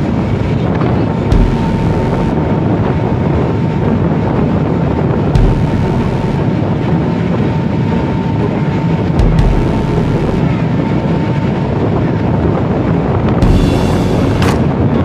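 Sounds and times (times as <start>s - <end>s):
ferry engine rumble: 0.0s - 15.0s
wind buffeting microphone: 0.0s - 15.0s.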